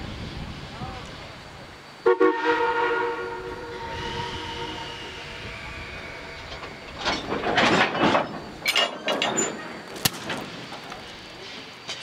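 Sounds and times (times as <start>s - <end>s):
railroad cars rushing and clattering: 0.0s - 12.0s.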